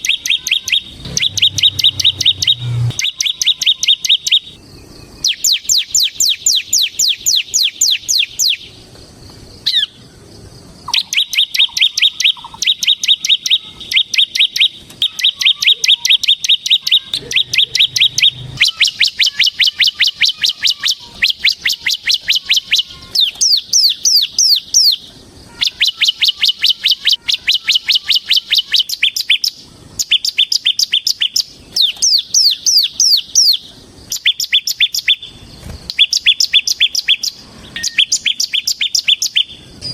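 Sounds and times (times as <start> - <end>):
bird singing rapid trill: 0.0 - 39.9.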